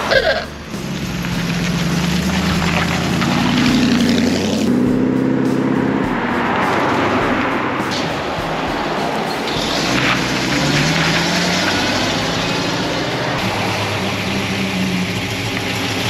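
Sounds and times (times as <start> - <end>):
car driving past: 0.0 - 16.0
car engine accelerating: 0.0 - 16.0
tyre and road noise: 0.0 - 16.0.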